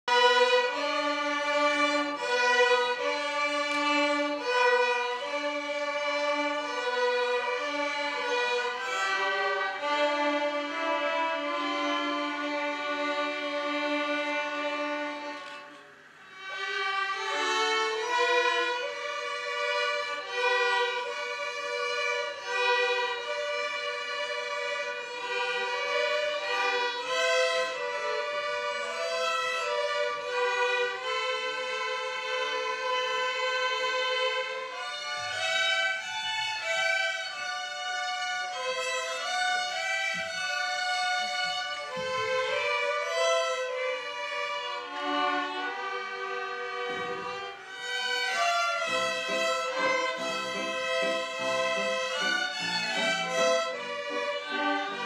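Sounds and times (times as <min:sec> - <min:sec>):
violin ensemble playing: 0:00.0 - 0:55.0.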